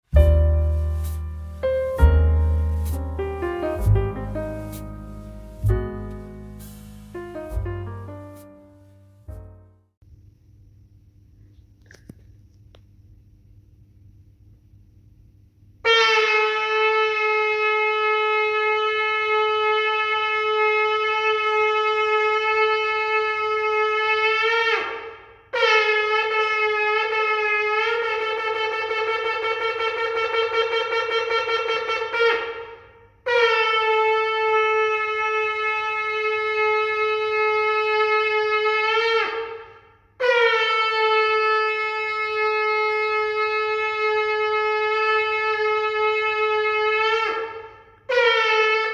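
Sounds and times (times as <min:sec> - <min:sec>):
shofar blasts: 0:00.1 - 0:08.7, 0:15.8 - 0:48.9.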